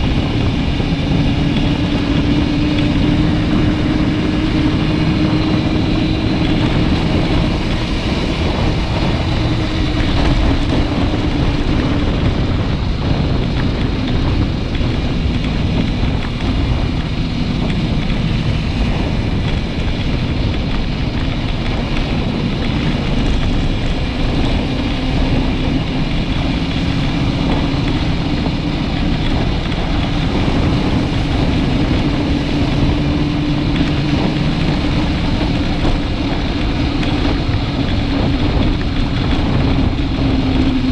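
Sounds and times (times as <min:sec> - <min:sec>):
motorcycle engine riding: 0:00.0 - 0:40.9
wind noise on microphone: 0:00.0 - 0:40.9.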